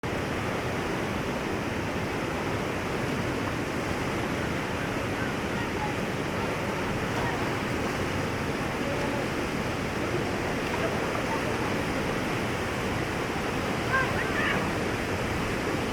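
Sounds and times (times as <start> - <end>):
river rapids rushing: 0.1 - 15.9.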